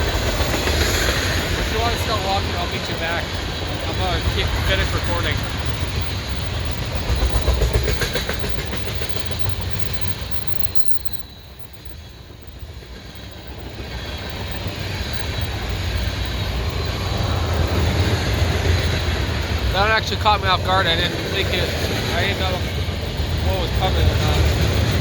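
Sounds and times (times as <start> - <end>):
low rumble of train: 0.0 - 25.0
train wheels clacking over rail joints: 0.0 - 25.0.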